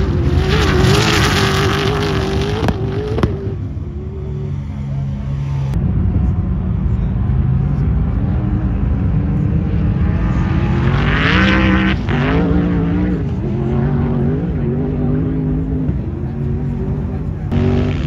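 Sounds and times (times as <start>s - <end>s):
engines accelerating hard: 0.0s - 18.0s.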